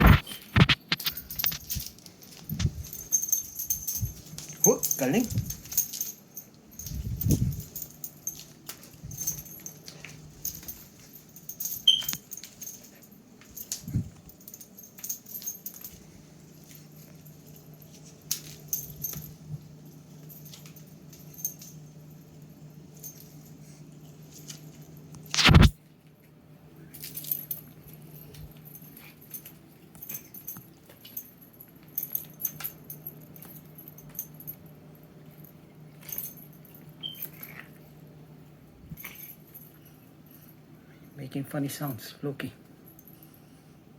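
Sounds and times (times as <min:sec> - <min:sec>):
clicks and jingles: 0:00.0 - 0:25.7, 0:26.8 - 0:38.0, 0:38.9 - 0:42.0
steady low hum: 0:00.0 - 0:43.9.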